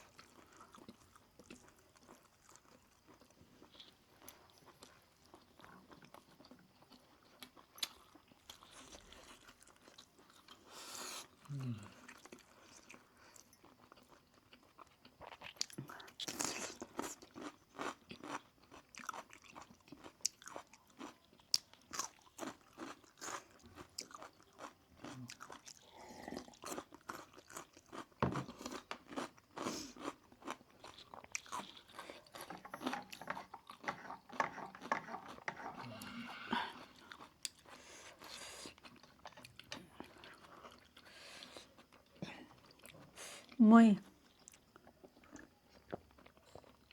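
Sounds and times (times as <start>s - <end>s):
crunching and wet chewing: 0.0s - 46.9s.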